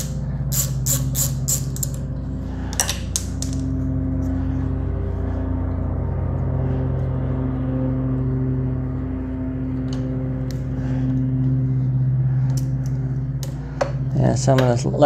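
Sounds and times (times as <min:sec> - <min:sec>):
small engine droning: 0:00.0 - 0:15.0.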